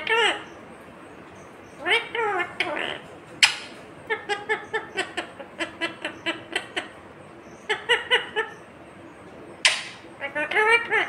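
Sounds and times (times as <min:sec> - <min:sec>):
parakeet chuckling calls: 0:00.0 - 0:00.7, 0:01.6 - 0:11.0.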